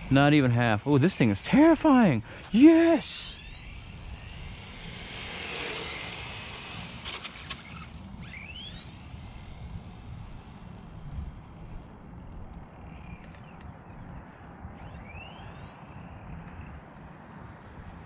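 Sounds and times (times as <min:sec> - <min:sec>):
electric rc car whining: 0:00.0 - 0:17.8.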